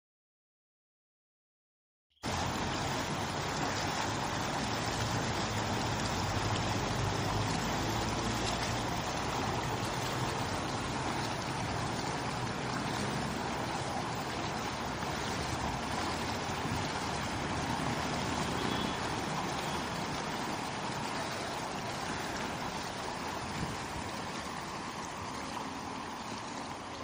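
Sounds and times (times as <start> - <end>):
stream cascading over boulders: 2.2 - 27.0.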